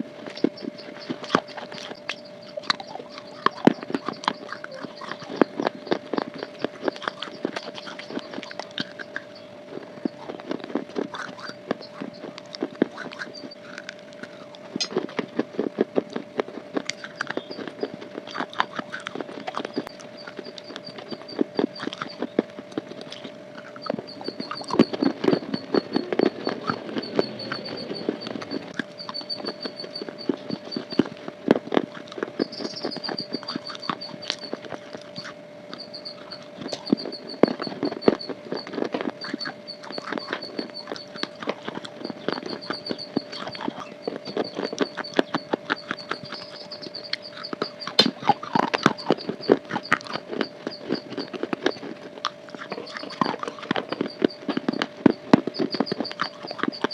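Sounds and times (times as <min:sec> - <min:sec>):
crunchy bar chewing: 0:00.0 - 0:56.9
faint high pulsing tones: 0:00.0 - 0:56.9
steady hum: 0:00.0 - 0:56.9.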